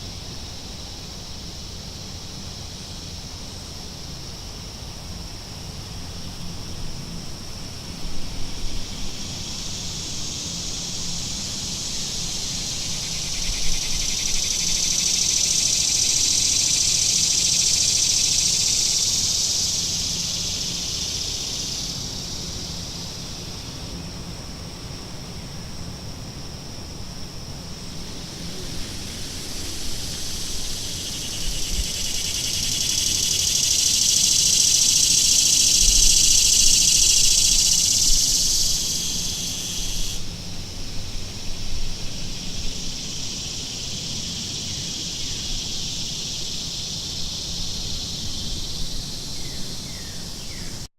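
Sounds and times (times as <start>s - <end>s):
cicadas droning: 0.0s - 50.9s.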